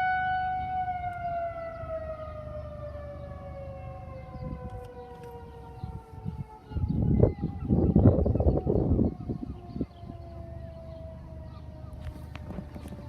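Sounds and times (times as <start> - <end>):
warning siren winding down: 0.0 - 13.0.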